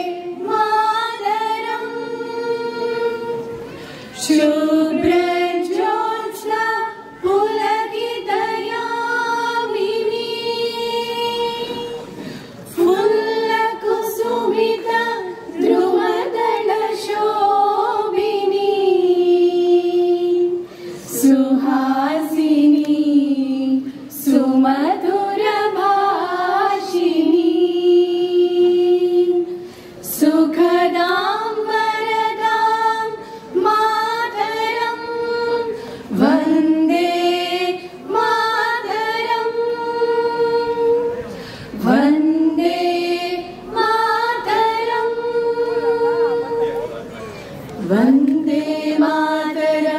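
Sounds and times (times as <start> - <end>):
women singing unaccompanied: 0.0 - 47.0, 47.8 - 49.9.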